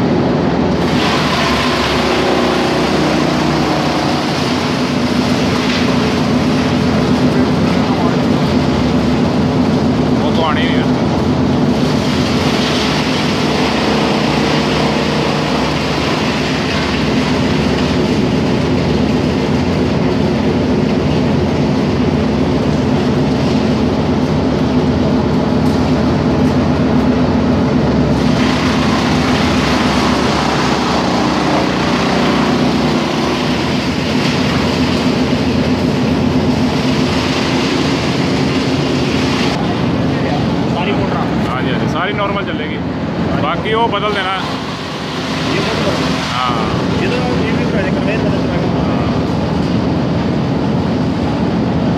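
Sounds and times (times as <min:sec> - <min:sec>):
wood chipper mechanical drone: 0:00.0 - 0:51.9.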